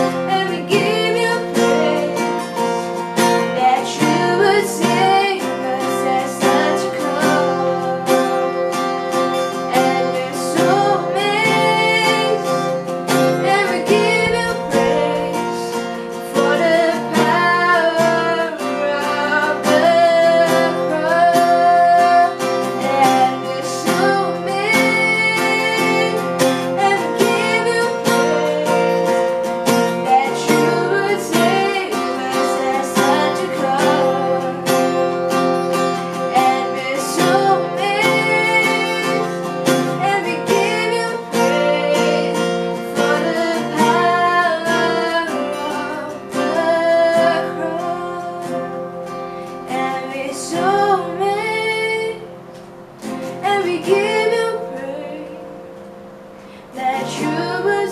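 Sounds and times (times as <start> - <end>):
woman singing: 0.0 - 52.4, 53.0 - 55.6, 56.5 - 57.9
acoustic guitar strumming: 0.0 - 57.9.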